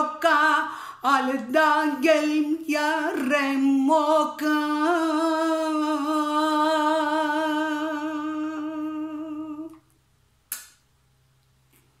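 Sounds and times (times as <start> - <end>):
woman singing long note: 0.0 - 9.8.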